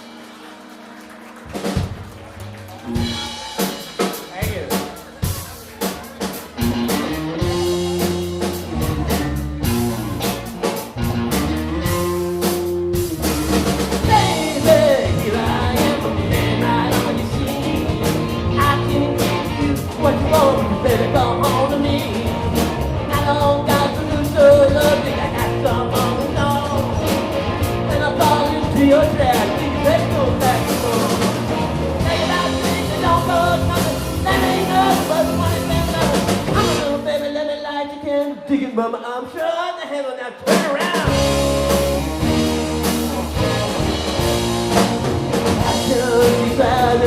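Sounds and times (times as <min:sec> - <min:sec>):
wavering lead guitar: 0:00.0 - 0:37.3, 0:40.5 - 0:47.0
live rock band playing: 0:00.0 - 0:38.4, 0:40.4 - 0:47.0.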